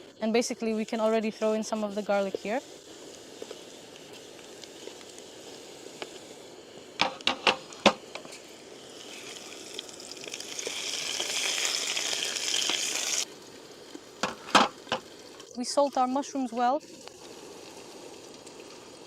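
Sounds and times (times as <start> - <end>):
potatoes sizzling in hot oil: 0.0 - 19.0.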